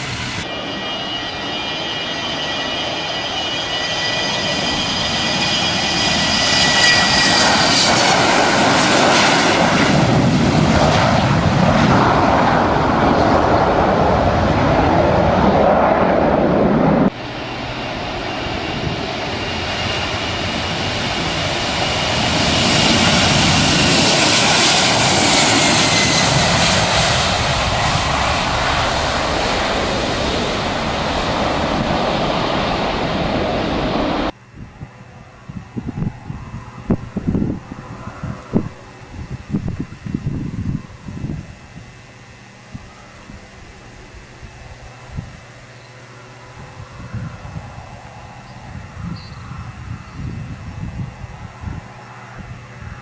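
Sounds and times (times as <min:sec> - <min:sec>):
airliner passing with falling whine: 0:00.0 - 0:53.0.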